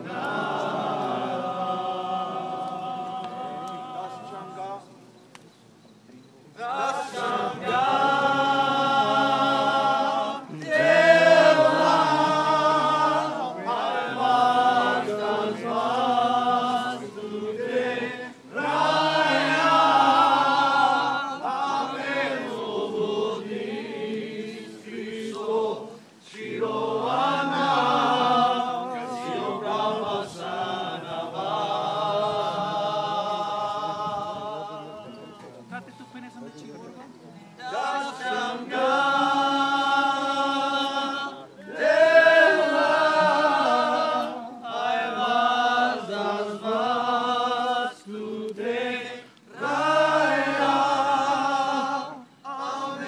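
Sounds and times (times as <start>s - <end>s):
group singing unaccompanied: 0.0s - 4.9s, 6.6s - 35.8s, 37.6s - 53.0s.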